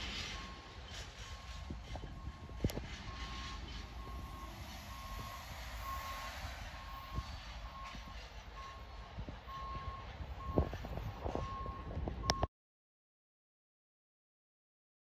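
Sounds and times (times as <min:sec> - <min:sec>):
vehicle backup alarm beeping: 0:00.0 - 0:12.5.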